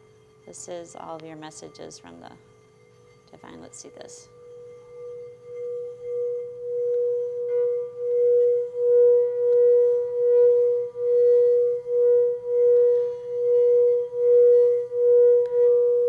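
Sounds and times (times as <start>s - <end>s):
singing bowl tone: 0.0s - 16.0s.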